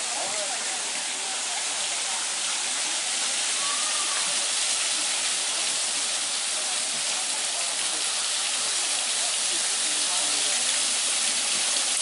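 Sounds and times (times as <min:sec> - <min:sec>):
water pouring onto a waterwheel: 0:00.0 - 0:12.0.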